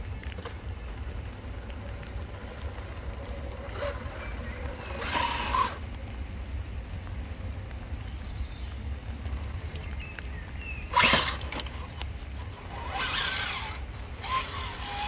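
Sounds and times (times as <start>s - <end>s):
whirring drivetrain: 0.0s - 15.0s.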